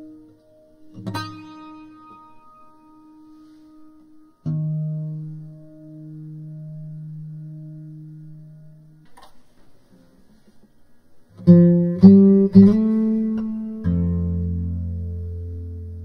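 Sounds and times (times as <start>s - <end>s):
plucked guitar chords: 0.0s - 10.2s, 11.3s - 16.0s.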